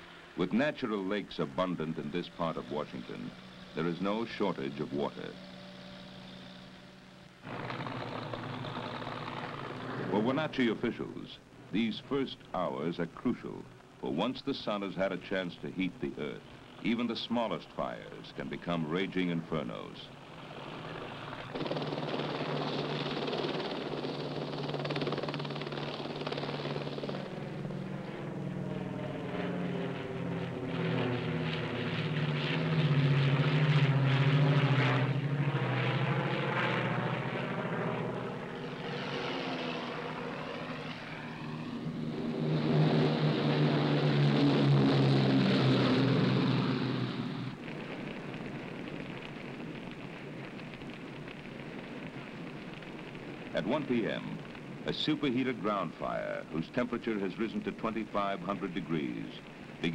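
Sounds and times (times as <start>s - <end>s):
propeller aircraft flying overhead: 0.0s - 13.8s, 14.8s - 59.9s.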